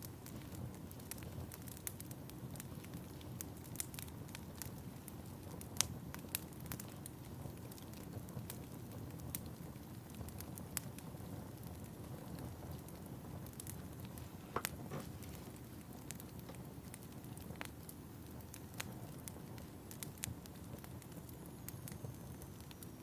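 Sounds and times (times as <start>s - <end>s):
fire crackling and popping: 0.0s - 23.0s
fireplace fire burning: 0.0s - 23.0s.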